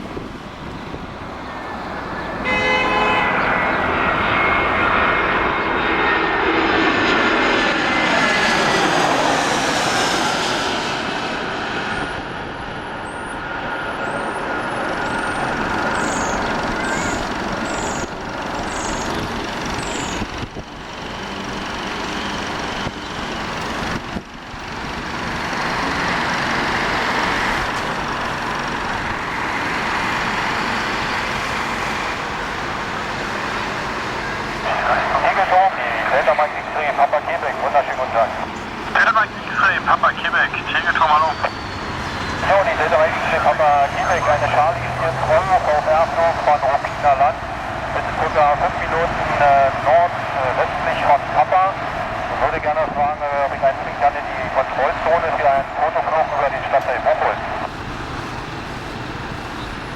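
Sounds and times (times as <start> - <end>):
jet airliner passing: 0.0 - 59.9.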